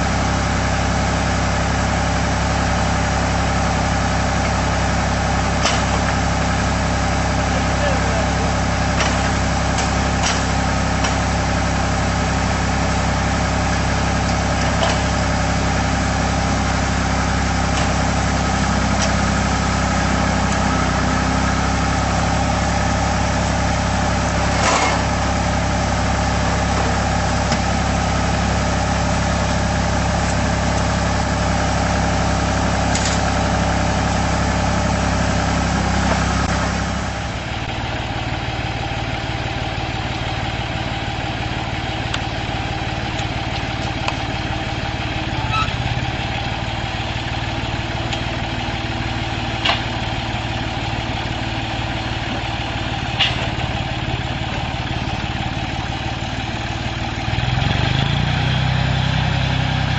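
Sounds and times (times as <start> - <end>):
post driver engine running: 0.0 - 59.9.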